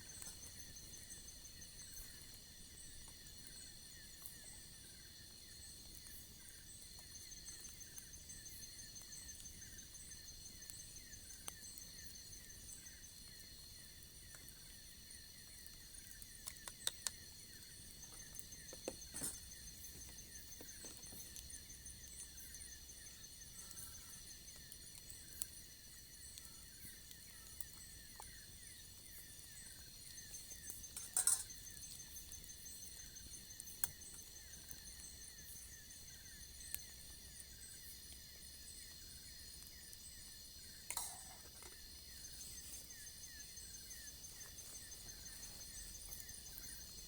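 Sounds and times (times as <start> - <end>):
crickets and insects trilling: 0.0 - 47.0
quick repeating insect chirp: 0.0 - 47.0.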